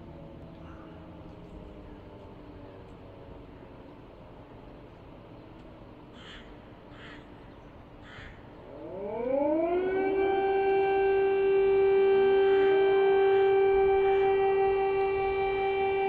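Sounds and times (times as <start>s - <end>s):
air raid siren wailing: 0.0s - 16.0s.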